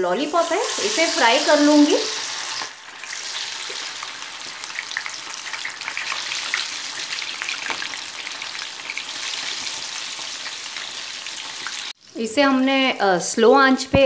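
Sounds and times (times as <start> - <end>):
chicken deep-frying in oil: 0.0 - 12.3
oil crackling and popping: 0.6 - 12.0.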